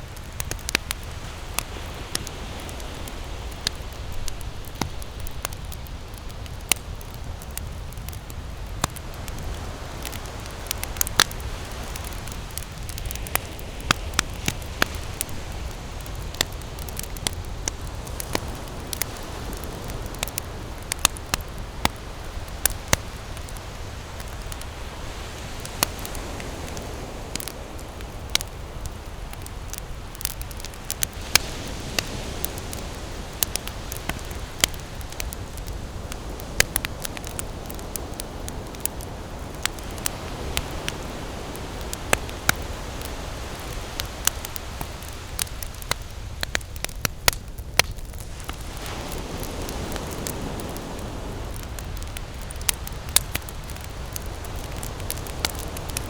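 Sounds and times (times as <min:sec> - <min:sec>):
campfire crackling and popping: 0:00.0 - 0:56.0
low fire rumble: 0:00.0 - 0:56.0.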